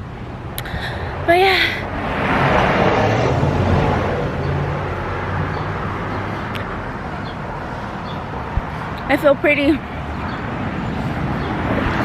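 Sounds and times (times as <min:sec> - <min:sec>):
vehicle passing by: 0:01.0 - 0:12.0.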